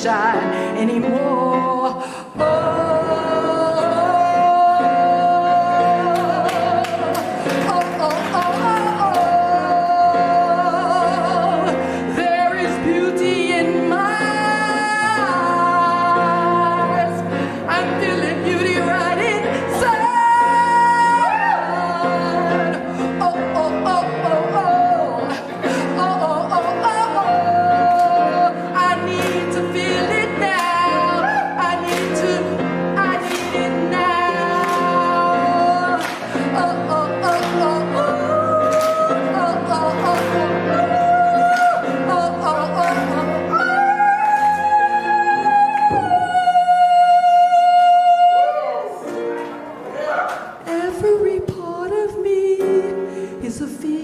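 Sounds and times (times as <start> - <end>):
woman singing wordless notes: 0.0 - 49.3, 50.6 - 54.0
instrumental accompaniment: 0.0 - 54.0.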